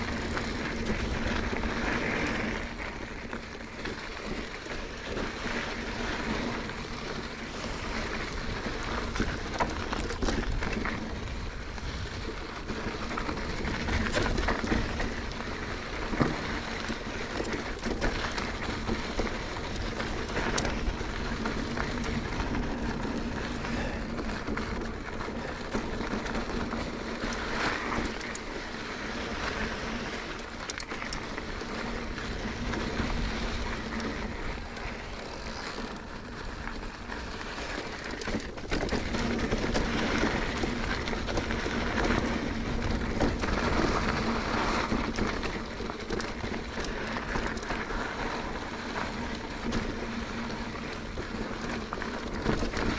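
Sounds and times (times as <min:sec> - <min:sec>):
bike tyres crunching over dirt: 0:00.0 - 0:52.9
wind rumble on microphone: 0:00.0 - 0:52.9
bike knocks and rattles: 0:03.7 - 0:11.4, 0:12.2 - 0:36.1, 0:37.6 - 0:52.9.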